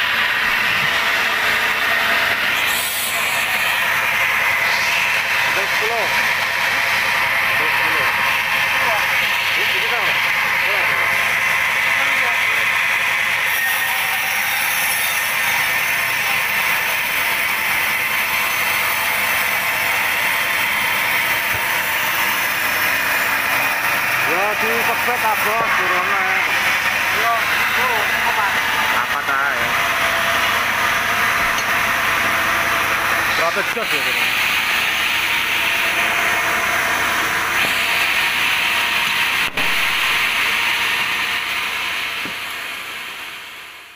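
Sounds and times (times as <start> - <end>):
band saw cutting log: 0.0 - 43.6.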